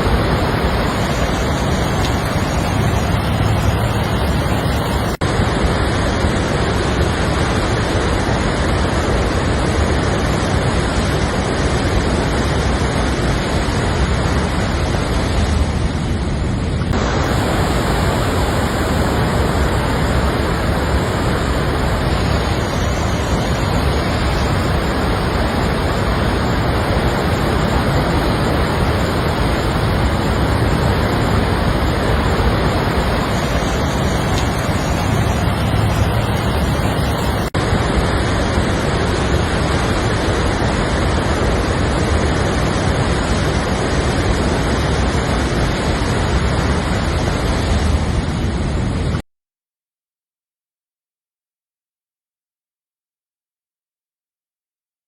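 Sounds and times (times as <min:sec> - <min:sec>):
floodwater rushing: 0:00.0 - 0:49.0.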